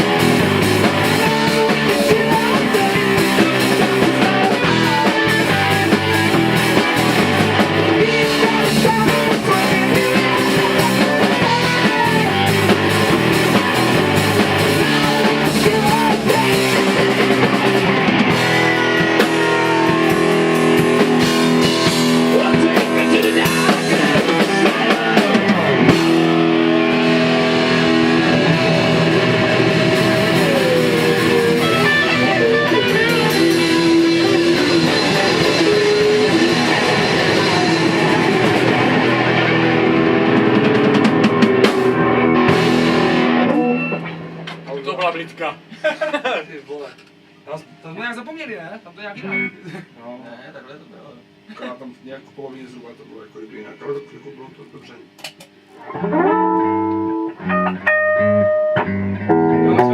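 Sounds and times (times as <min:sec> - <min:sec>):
rock band playing: 0:00.0 - 0:45.8, 0:55.7 - 0:59.9.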